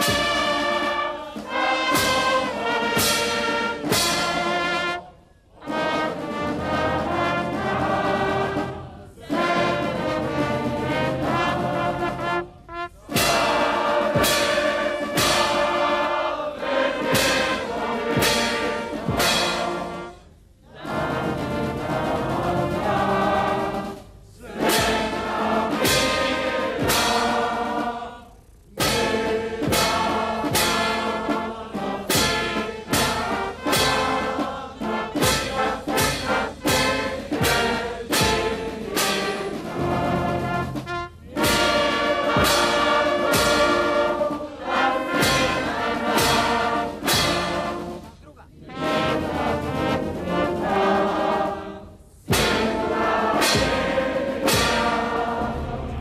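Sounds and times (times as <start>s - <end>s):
sharp percussion hits: 0.0s - 4.7s, 9.6s - 20.3s, 21.1s - 51.6s, 52.3s - 56.0s
solemn orchestral music with choir: 0.0s - 56.0s.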